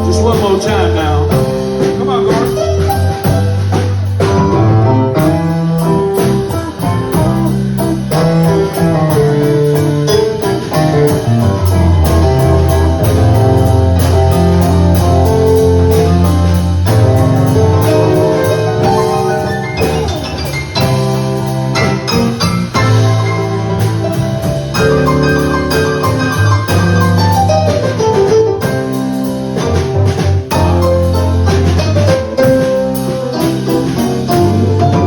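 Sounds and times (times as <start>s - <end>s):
bass line: 0.0s - 35.0s
drums on cymbals: 0.0s - 35.0s.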